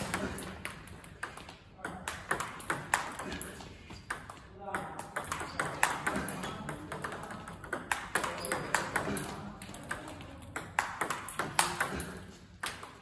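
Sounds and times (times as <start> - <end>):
table tennis balls clicking: 0.0 - 13.0.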